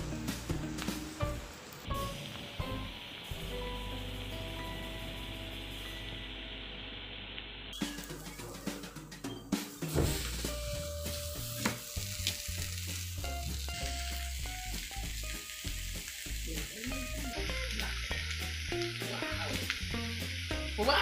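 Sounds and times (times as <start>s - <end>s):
fish sizzling on a griddle: 0.0s - 8.4s, 9.6s - 21.0s.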